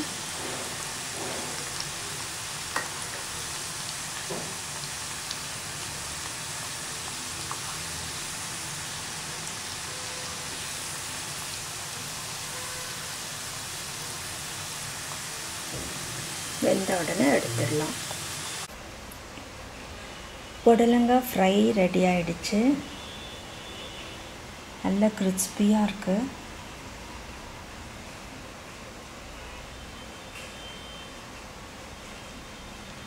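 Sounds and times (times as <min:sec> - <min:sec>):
food deep-frying in hot oil: 0:00.0 - 0:33.0.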